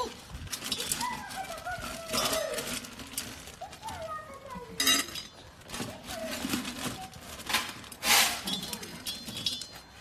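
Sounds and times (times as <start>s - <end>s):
kibble rattling in metal pan: 0.0s - 10.0s.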